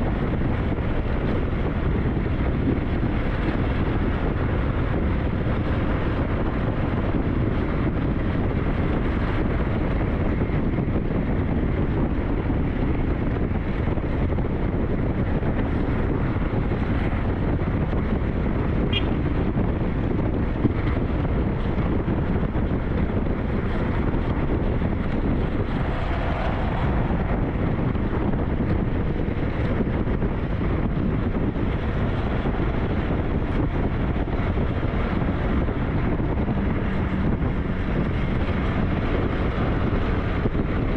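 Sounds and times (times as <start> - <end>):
motorcycle road noise: 0.0 - 40.9
wind rushing over microphone: 0.0 - 40.9.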